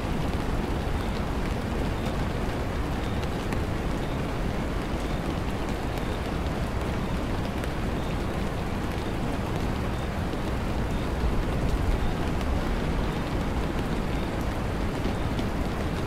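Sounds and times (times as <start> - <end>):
raindrop ticks: 0.0 - 16.0
steady rain: 0.0 - 16.0.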